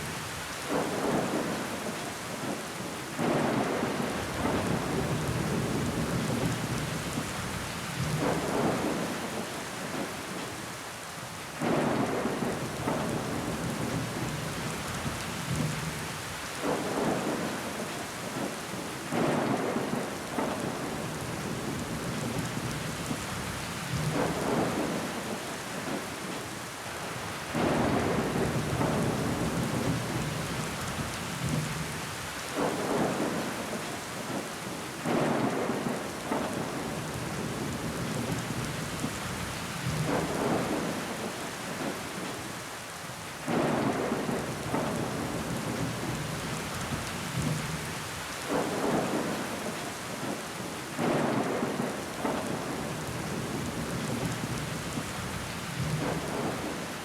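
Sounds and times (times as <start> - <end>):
rain on window glass: 0.0 - 10.8, 11.4 - 57.0.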